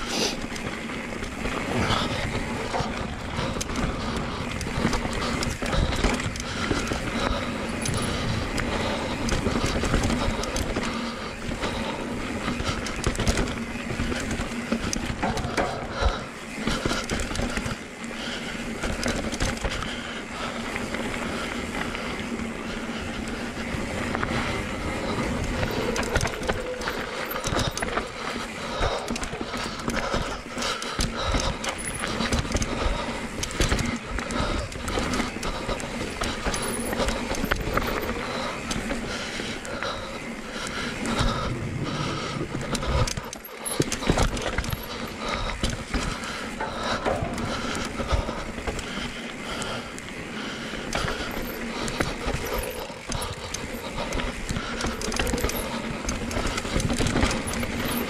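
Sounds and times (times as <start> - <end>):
bike tyres rolling over stones: 0.0 - 58.0
wheels knocking on rocks: 0.0 - 58.0
chain and frame rattling: 1.1 - 17.8, 23.5 - 39.0, 39.6 - 50.0, 50.8 - 58.0.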